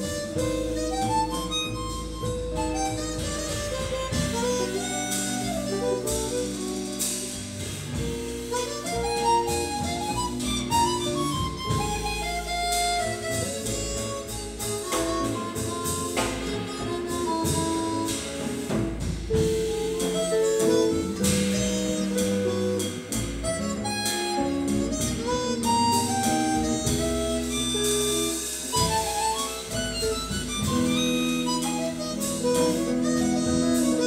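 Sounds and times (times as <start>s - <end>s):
double bass: 0.0s - 34.0s
drums: 0.0s - 34.0s
harmonica melody: 0.0s - 34.0s.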